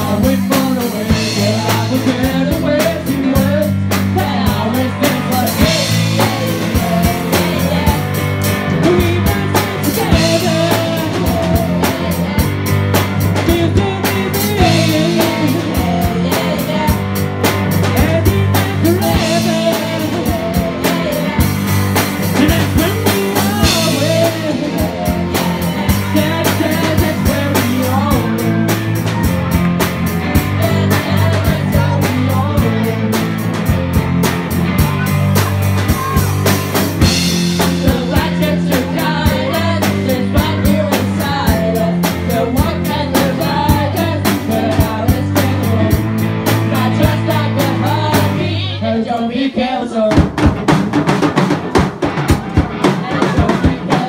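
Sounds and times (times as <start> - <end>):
voices singing together: 0.0 - 33.7, 34.8 - 50.5, 52.5 - 54.0
drum kit beat: 0.0 - 48.7, 50.0 - 54.0
electric guitars: 0.0 - 49.3, 50.2 - 54.0.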